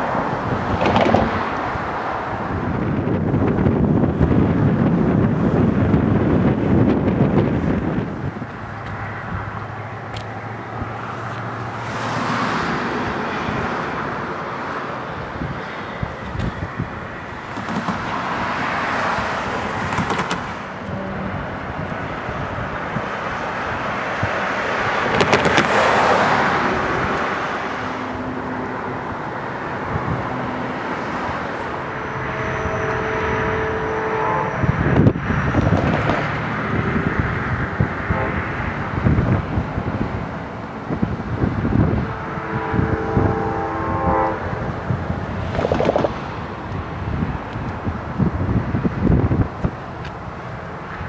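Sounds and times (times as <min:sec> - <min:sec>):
cars passing: 0:00.0 - 0:51.0.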